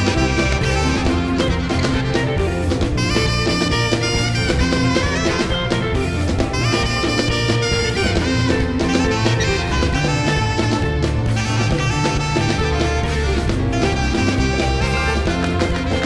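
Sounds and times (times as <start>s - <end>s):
gospel worship band music: 0.0s - 16.0s.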